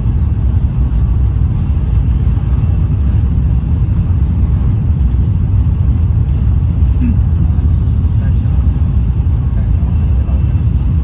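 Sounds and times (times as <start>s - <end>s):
train running noise in cabin: 0.0s - 11.0s.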